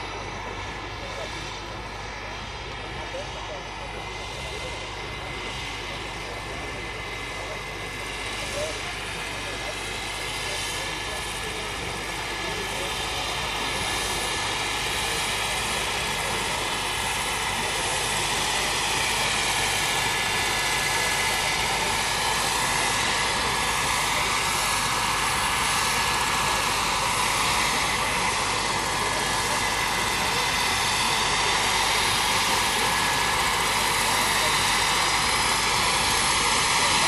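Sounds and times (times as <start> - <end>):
helicopter rotor noise: 0.0 - 37.0
model helicopter turbine whine: 0.0 - 37.0.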